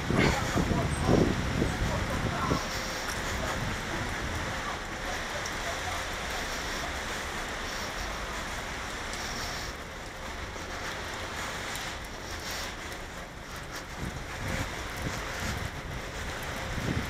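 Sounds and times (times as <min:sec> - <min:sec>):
rain-wet street hiss: 0:00.0 - 0:17.0
traffic on wet road: 0:00.0 - 0:17.0
wind rumbling on microphone: 0:00.0 - 0:17.0.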